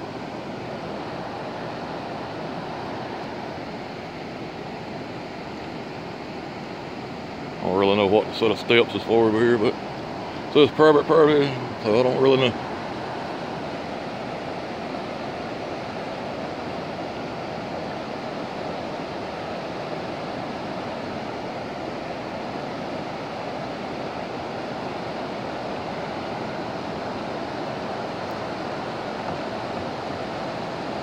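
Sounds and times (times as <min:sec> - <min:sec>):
river rapids rushing: 0:00.0 - 0:31.0.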